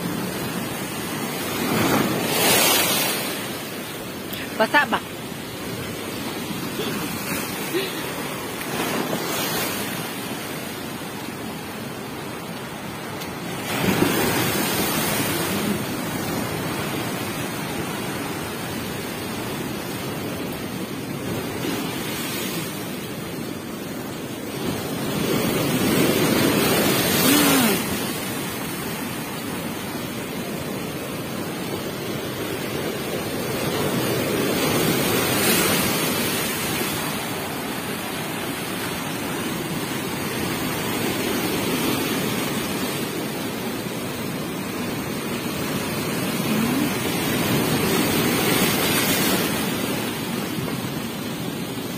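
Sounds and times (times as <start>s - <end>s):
rush of surf: 0.0s - 51.9s
waves crashing on shore: 0.0s - 51.9s.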